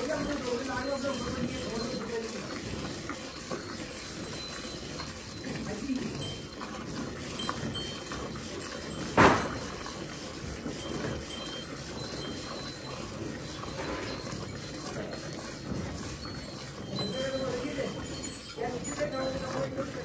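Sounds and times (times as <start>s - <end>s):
milk squirting into bucket: 0.0s - 20.0s.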